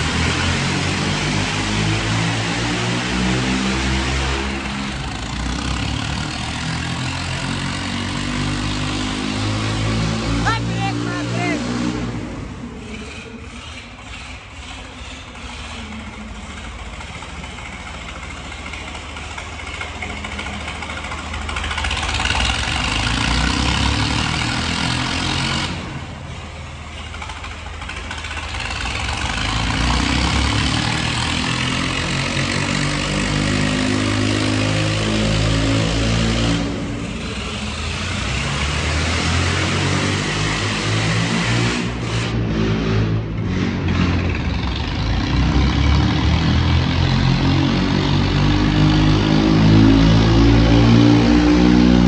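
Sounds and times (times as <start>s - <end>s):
tractor diesel engines running: 0.0s - 52.0s.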